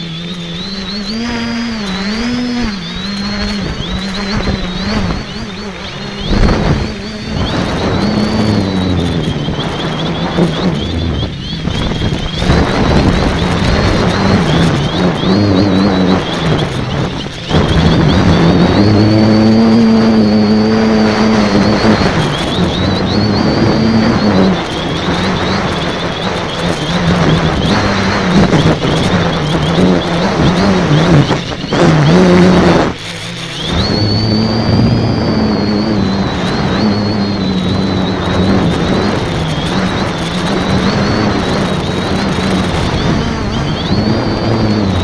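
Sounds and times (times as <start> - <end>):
drone motors buzzing with high whine: 0.0 - 45.0
rushing noise: 0.0 - 45.0.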